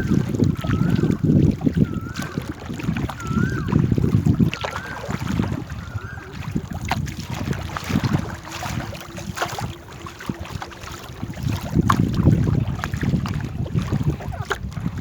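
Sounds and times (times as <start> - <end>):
paddles splashing: 0.0 - 15.0
wind buffeting microphone: 0.0 - 15.0.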